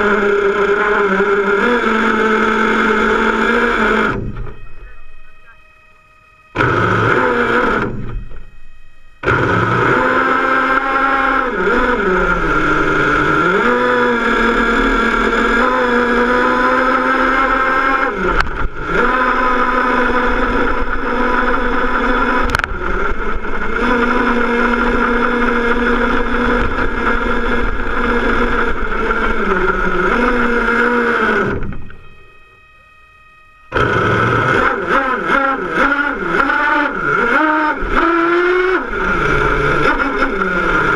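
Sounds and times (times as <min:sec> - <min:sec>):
rc car motor whining: 0:00.0 - 0:40.9.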